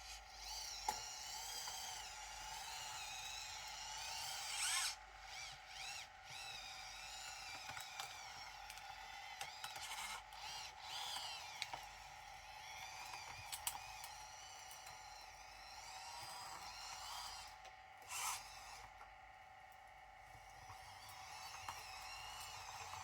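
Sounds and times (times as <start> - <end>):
small electric motor whining: 0.0 - 19.2, 20.2 - 23.0.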